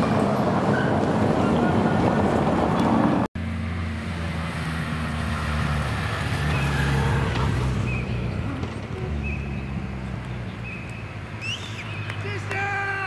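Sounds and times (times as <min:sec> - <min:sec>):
car engine and tyres humming: 0:00.0 - 0:13.0.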